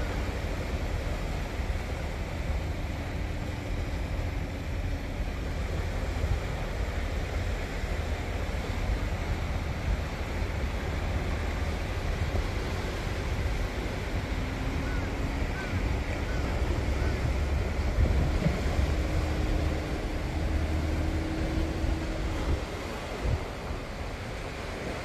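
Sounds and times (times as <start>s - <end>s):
small waves breaking: 0.0s - 25.0s.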